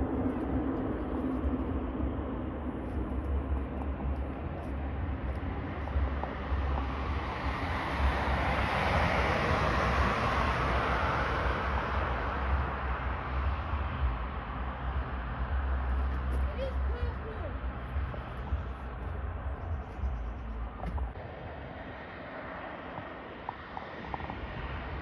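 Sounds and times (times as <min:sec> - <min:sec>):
aircraft engine passing: 0:00.0 - 0:25.0
wind rumble on microphone: 0:00.0 - 0:25.0.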